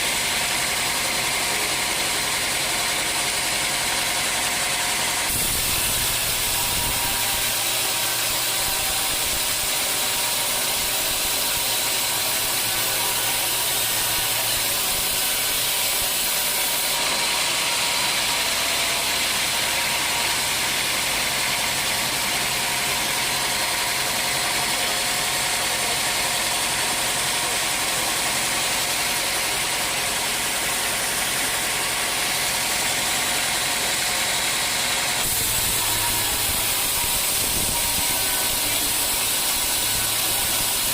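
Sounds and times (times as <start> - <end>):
sawmill saw hissing: 0.0 - 40.9.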